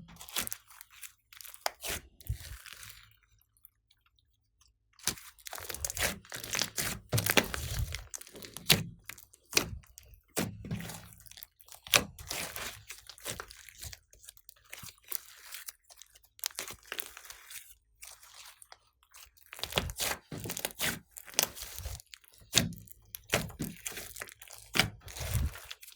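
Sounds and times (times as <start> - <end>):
slime squishing sticky crackles: 0.0 - 3.8, 5.0 - 25.9.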